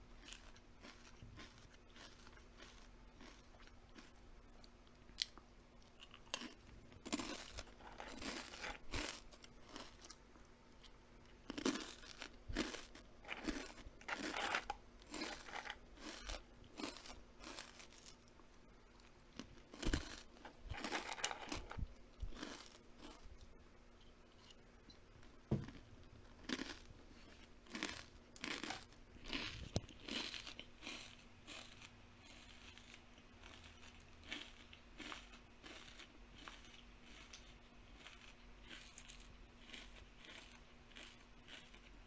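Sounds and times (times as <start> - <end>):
crunchy food being chewed: 0.0 - 42.0.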